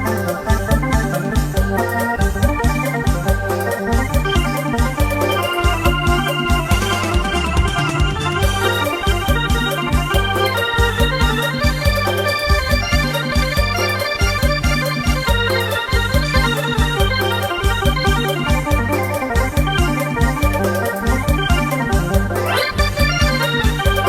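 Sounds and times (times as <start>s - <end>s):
background music with bass: 0.0s - 24.0s.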